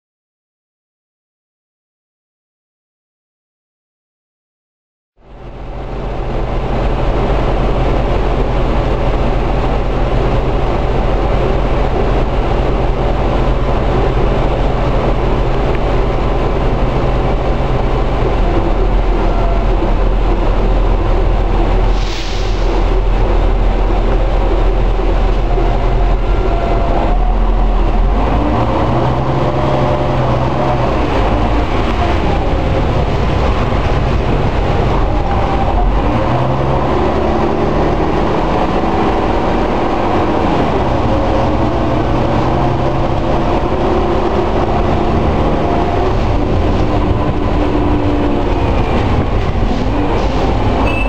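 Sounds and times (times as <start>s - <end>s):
bus diesel engine accelerating: 5.2s - 51.0s.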